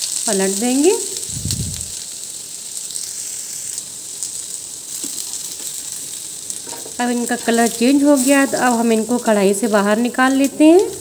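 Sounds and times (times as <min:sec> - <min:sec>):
potatoes sizzling in hot oil: 0:00.0 - 0:11.0.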